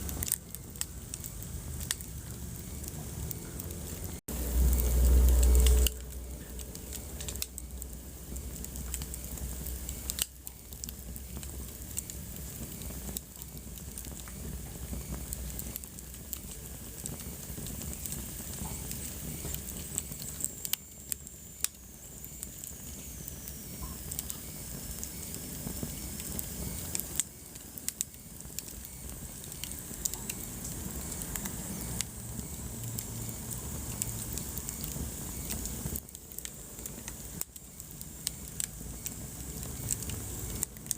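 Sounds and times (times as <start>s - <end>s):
fire crackles and pops: 0.0s - 40.9s
fire rumbling and hissing: 0.0s - 40.9s.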